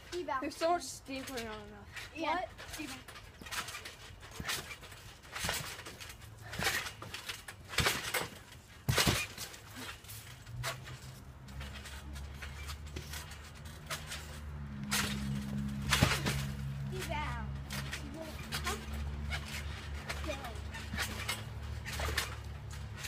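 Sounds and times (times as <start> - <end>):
trampoline thumping: 0.0 - 23.0.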